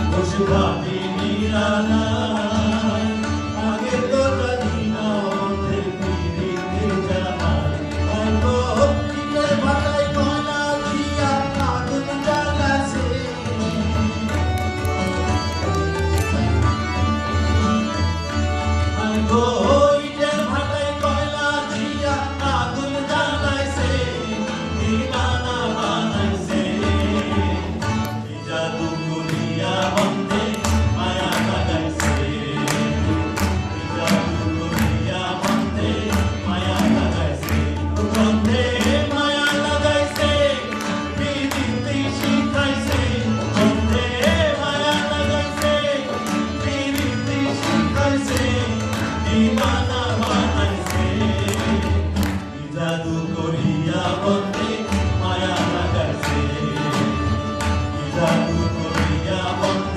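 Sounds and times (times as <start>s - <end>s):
man singing: 0.0s - 14.7s, 18.8s - 59.9s
harmonium: 0.0s - 59.9s.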